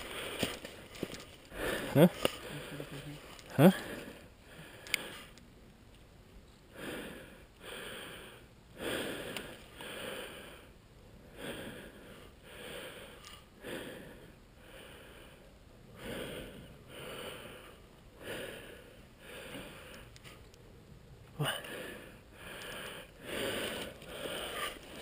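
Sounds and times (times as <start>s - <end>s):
person breathing heavily: 0.0s - 5.4s, 6.7s - 20.2s, 21.4s - 25.0s.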